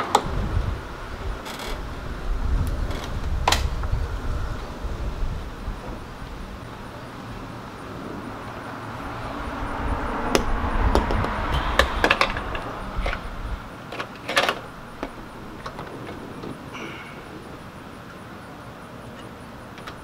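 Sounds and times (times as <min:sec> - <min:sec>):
rushing noise with low rumble: 0:00.0 - 0:20.0.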